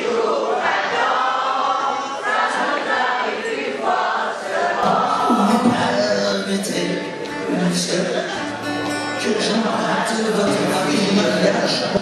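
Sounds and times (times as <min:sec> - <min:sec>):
crowd singing in chorus: 0:00.0 - 0:12.0.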